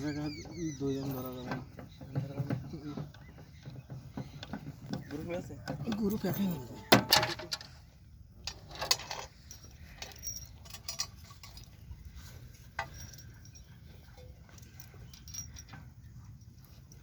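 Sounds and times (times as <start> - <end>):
metal tools clinking: 0.3 - 3.2, 4.4 - 7.8, 8.4 - 17.0.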